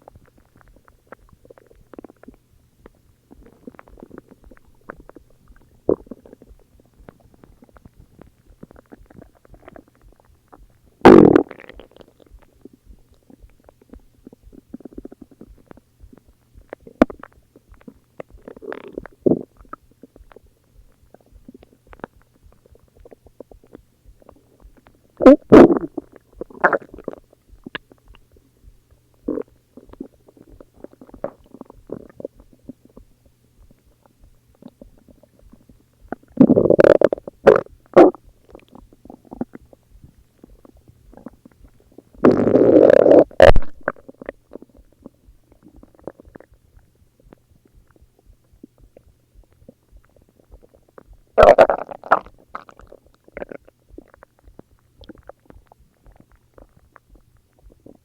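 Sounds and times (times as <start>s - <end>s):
stomach growling and gurgling: 0.0s - 58.0s.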